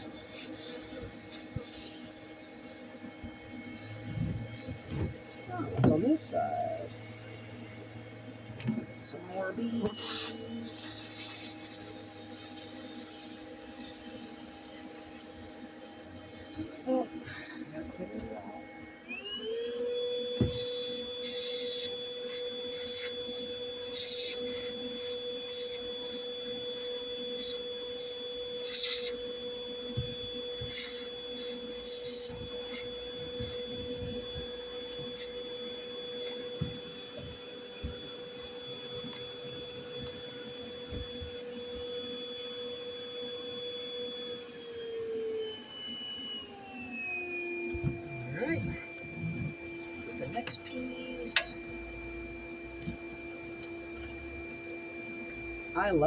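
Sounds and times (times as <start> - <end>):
bee vacuum motor whine: 0.0 - 56.0.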